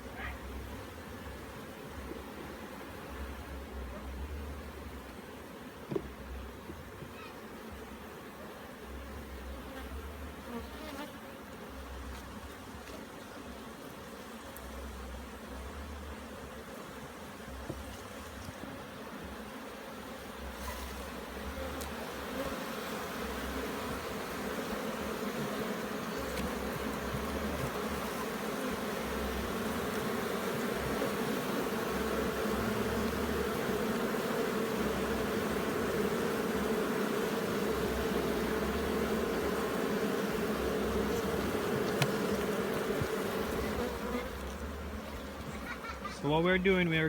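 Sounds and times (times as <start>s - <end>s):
honey bees buzzing: 0.0s - 47.0s.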